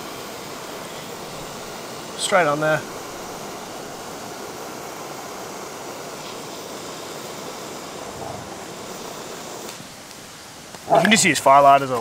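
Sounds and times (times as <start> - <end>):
torch lighter flame hissing: 0.0 - 12.0.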